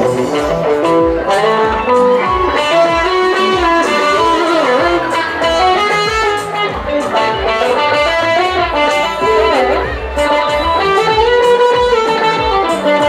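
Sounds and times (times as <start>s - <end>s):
bass guitar: 0.0s - 13.0s
drums: 0.0s - 13.0s
electric guitar melody: 0.0s - 13.0s.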